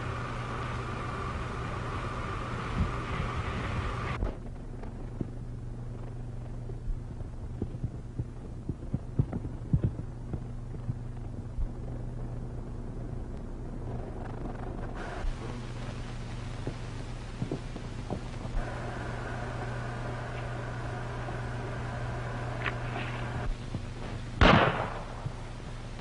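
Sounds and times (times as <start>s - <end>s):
film hiss: 0.0s - 26.0s
low hum: 0.0s - 26.0s.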